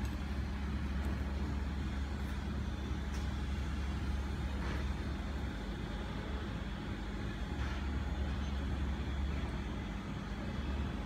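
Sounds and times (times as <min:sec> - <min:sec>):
low background rumble with hum: 0:00.0 - 0:11.0.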